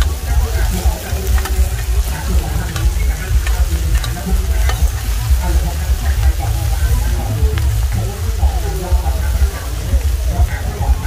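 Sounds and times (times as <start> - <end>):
eggs sizzling on a griddle: 0.0 - 11.0
steady low rumble: 0.0 - 11.0.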